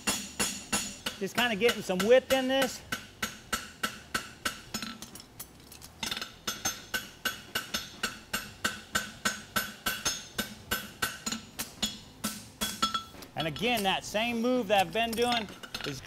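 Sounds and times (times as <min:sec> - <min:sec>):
hammer striking horseshoe on anvil: 0:00.0 - 0:05.2, 0:06.0 - 0:16.0.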